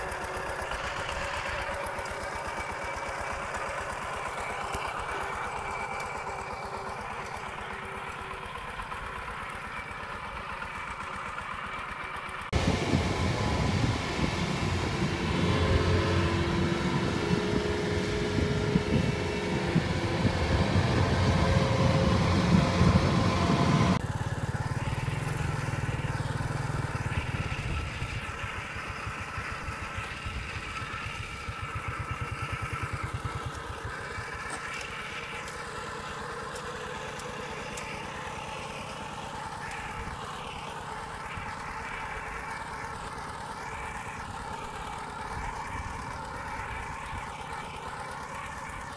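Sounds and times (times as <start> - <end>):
combine harvester engine: 0.0 - 48.9
walking tractor diesel engine: 0.0 - 48.9.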